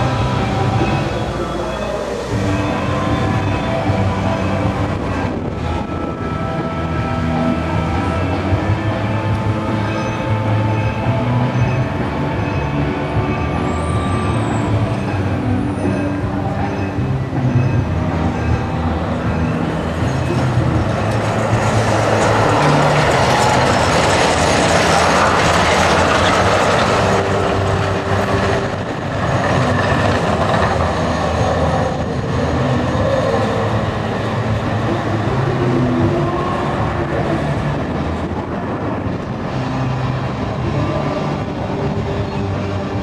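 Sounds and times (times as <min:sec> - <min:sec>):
tram motors humming: 0:00.0 - 0:43.0
tram wheels rumbling on rails: 0:00.0 - 0:43.0.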